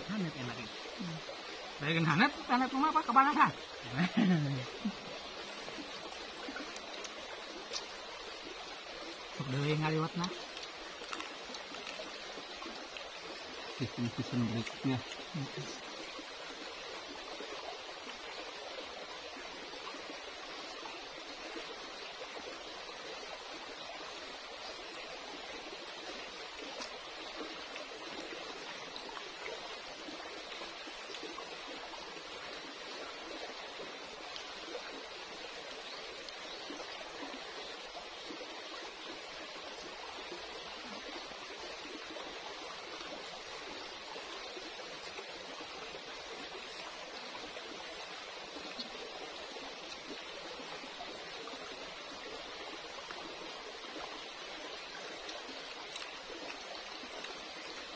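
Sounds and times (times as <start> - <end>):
stream running over rocks: 0.0 - 57.9.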